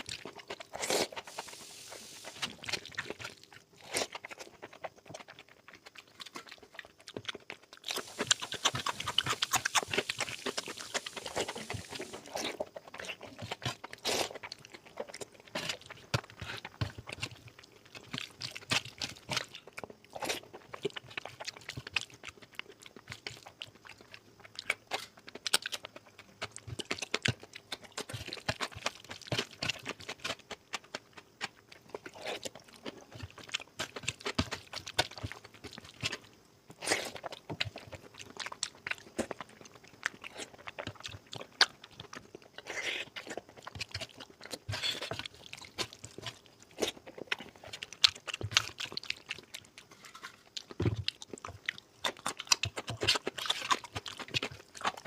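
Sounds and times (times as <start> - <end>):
person chewing with wet mouth sounds: 0.0 - 55.0.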